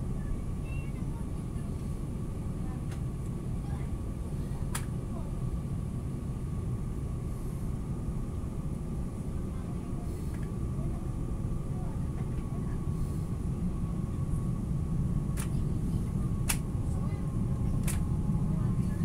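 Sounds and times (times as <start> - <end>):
train cabin rumble: 0.0 - 19.0.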